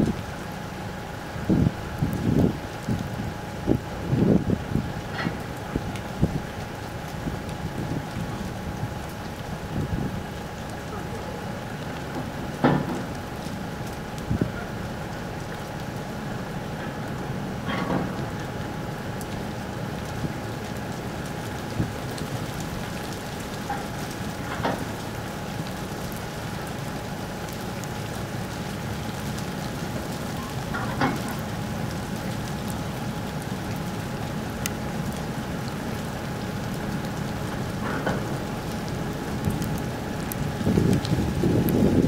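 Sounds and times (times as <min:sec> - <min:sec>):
steady hiss of rain: 0:00.0 - 0:42.0.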